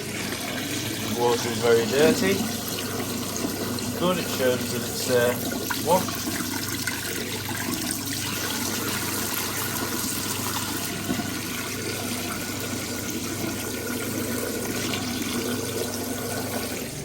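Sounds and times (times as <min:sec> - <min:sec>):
drain pump humming: 0:00.0 - 0:17.0
water pouring into sink: 0:00.0 - 0:17.0.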